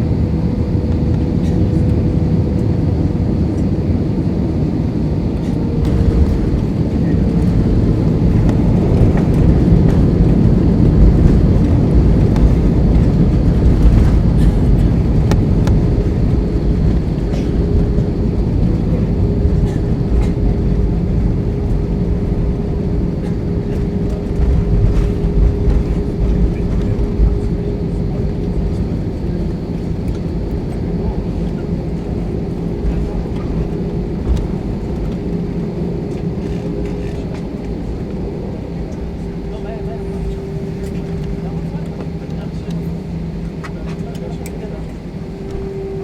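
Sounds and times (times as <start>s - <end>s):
airplane cabin engine rumble: 0.0s - 46.0s.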